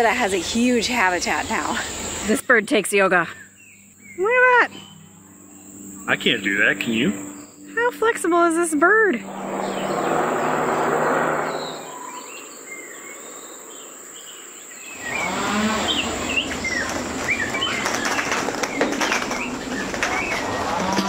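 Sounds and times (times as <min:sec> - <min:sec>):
birds chirping and whistling: 0:03.3 - 0:21.0.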